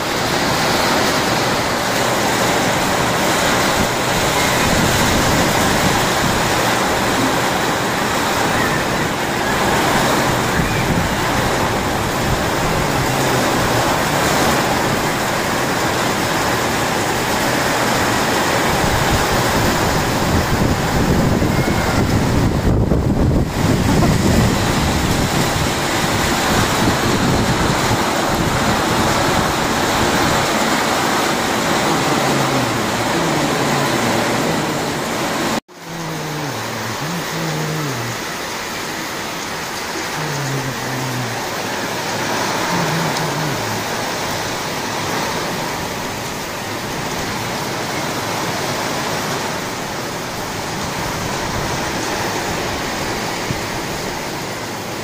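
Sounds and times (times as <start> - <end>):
heavy rain pouring: 0.0 - 55.0
wind gusting through trees: 0.0 - 55.0.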